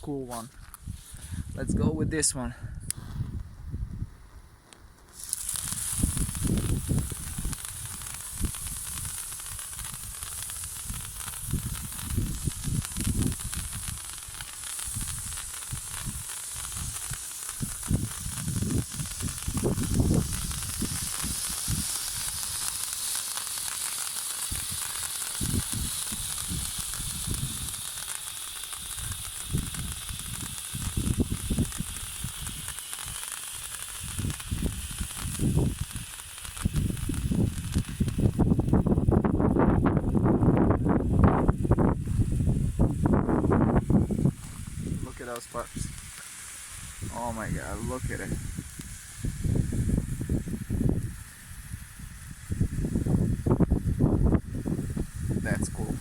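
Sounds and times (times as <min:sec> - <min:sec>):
firework fountain sizzling hiss: 0:00.0 - 0:56.0.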